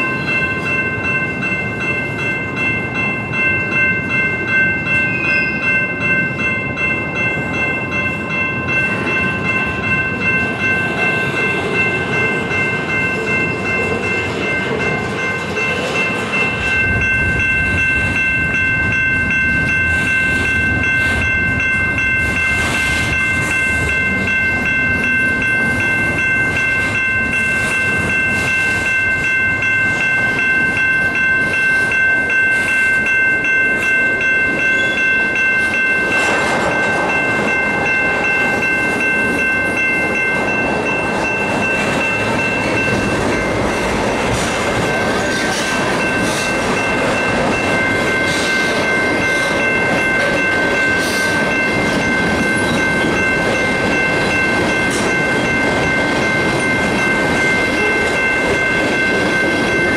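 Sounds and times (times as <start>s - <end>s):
freight train rumble: 0.0s - 59.9s
high-pitched ringing tones: 0.0s - 59.9s.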